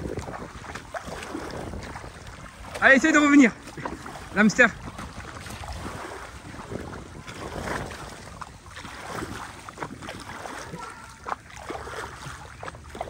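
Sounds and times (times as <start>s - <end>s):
water splashing and sloshing: 0.0s - 13.0s
wind rumbling on microphone: 0.0s - 13.0s.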